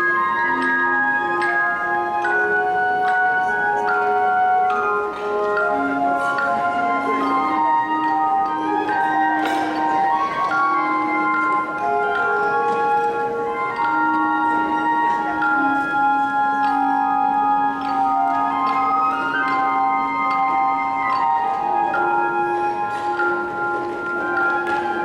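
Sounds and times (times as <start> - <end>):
flute melody: 0.0 - 25.0.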